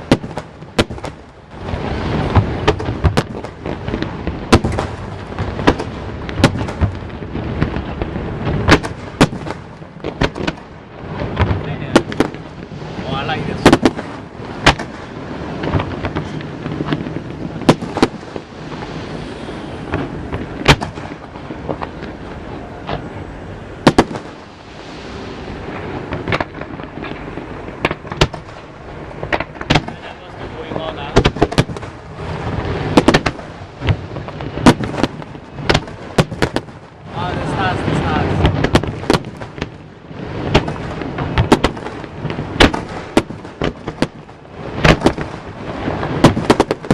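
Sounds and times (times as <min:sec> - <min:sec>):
fireworks bursting with sharp bangs: 0:00.0 - 0:46.9
steady background noise: 0:00.0 - 0:46.9.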